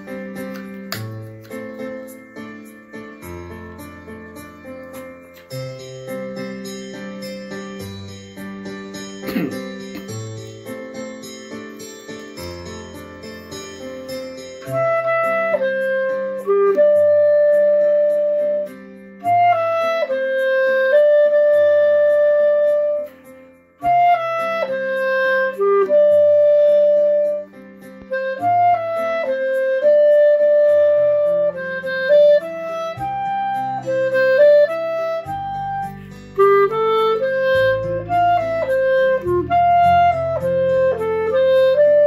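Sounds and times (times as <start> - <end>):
clarinet melody: 0.0 - 42.0.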